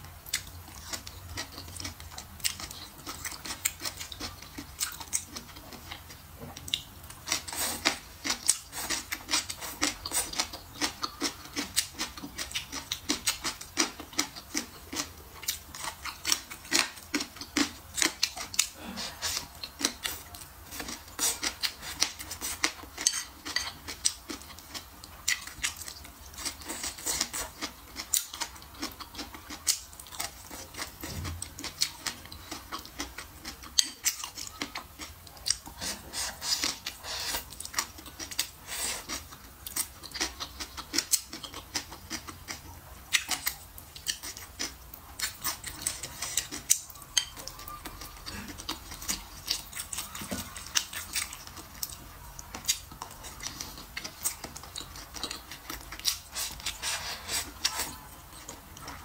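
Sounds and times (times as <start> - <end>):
chewing and crunching vegetables: 0.0 - 59.0.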